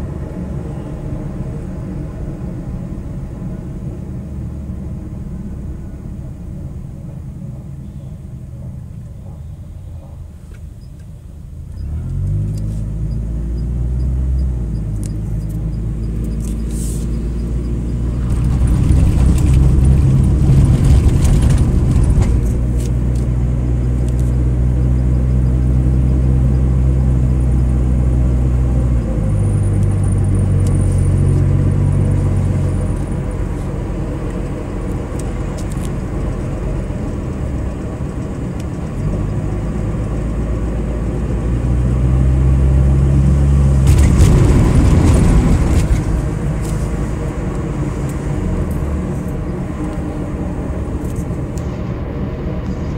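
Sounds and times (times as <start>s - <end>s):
road noise: 0.0s - 52.9s
car engine pulling: 10.0s - 52.9s.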